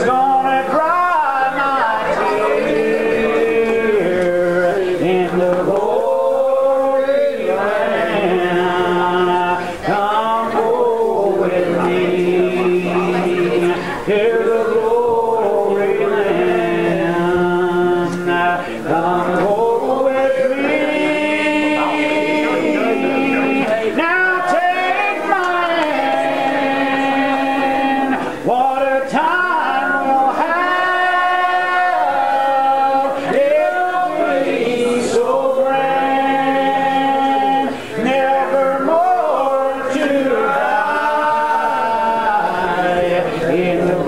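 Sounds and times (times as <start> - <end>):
congregation singing a hymn: 0.0 - 44.0.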